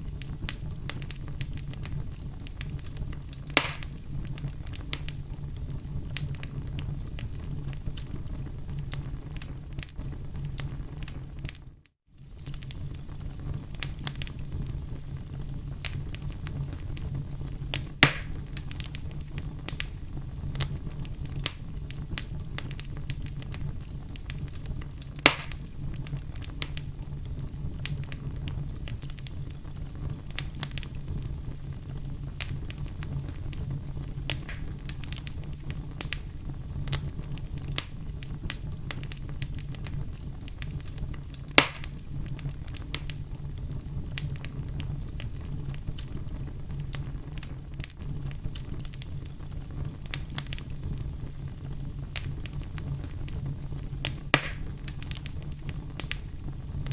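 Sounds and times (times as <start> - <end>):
loud fire pops: 0.0 - 56.9
wood fire crackling: 0.0 - 56.9.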